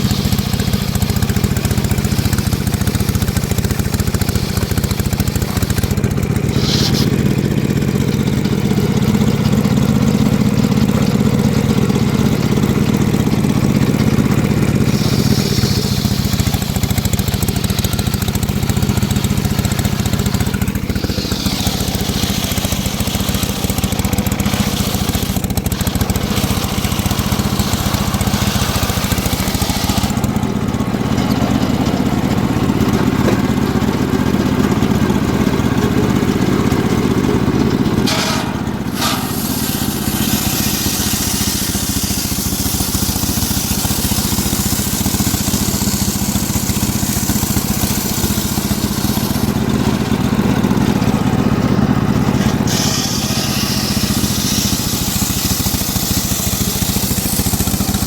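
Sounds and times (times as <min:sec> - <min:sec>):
circular sawmill sawing wood: 0:00.0 - 0:58.0.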